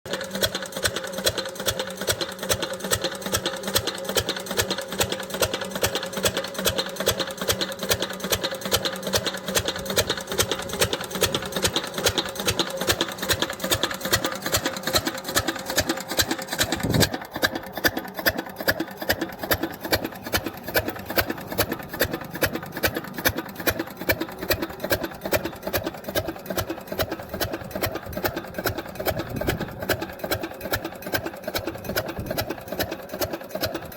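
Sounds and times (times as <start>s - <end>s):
diesel water pump running: 0.0s - 33.9s.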